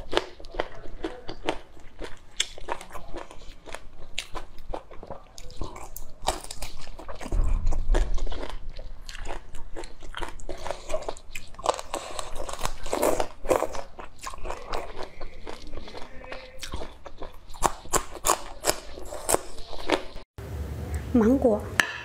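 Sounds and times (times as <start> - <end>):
crunching and chewing: 0.0 - 20.3.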